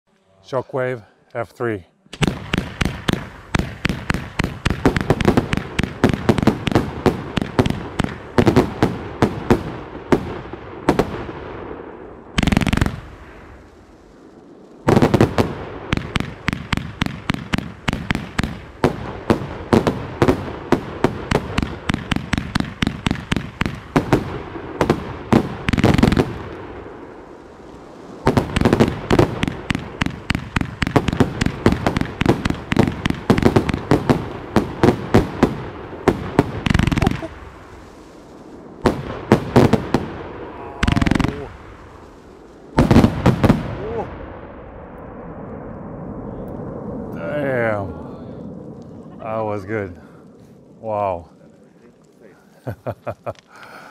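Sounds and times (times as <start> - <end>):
fireworks aerial bursts: 0.4 - 53.9.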